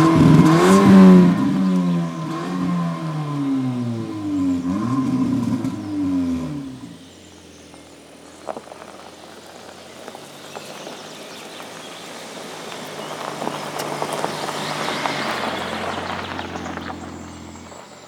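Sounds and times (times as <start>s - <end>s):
car engine passing by: 0.0s - 18.0s.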